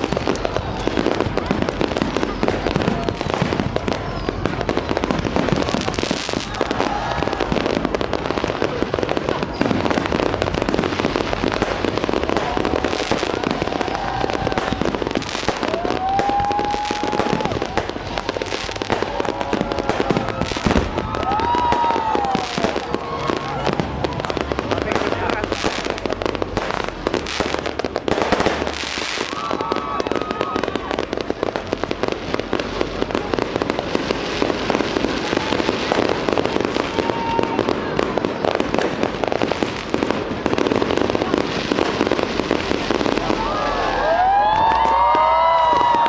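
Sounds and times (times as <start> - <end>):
fireworks bangs and crackling: 0.0 - 46.0
fireworks whines: 0.0 - 46.0.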